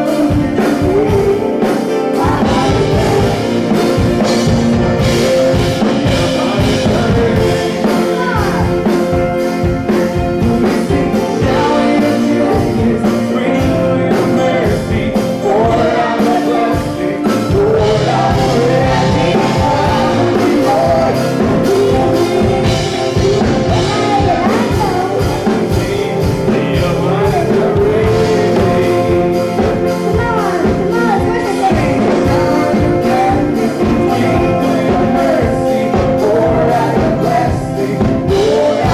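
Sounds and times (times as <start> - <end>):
choir singing: 0.0 - 38.9
live band playing: 0.0 - 38.9.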